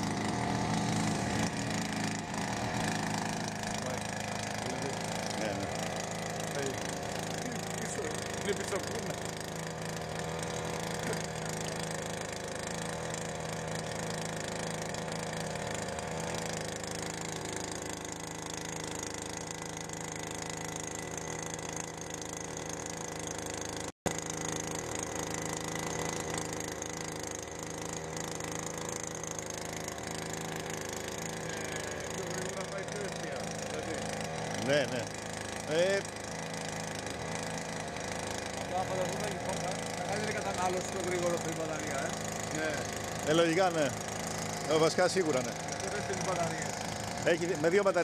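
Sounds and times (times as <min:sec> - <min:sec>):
rotating brush hum: 0:00.0 - 0:48.0
water pump running: 0:00.0 - 0:48.0.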